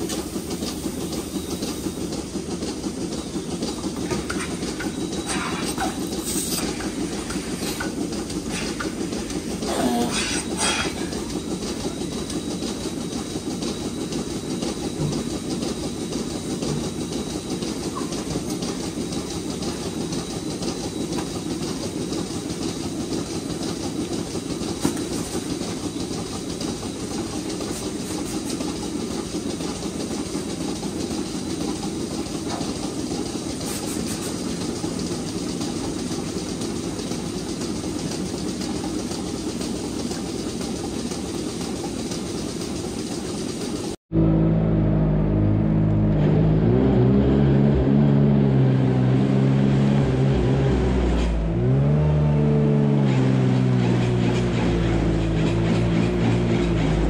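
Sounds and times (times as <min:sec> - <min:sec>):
milking machinery rumble and clatter: 0:00.0 - 0:57.0.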